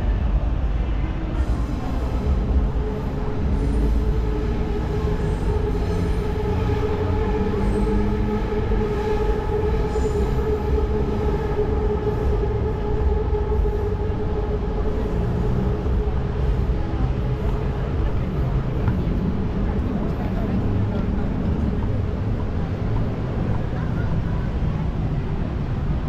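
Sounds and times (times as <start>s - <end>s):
elevated train running: 0.0s - 26.0s.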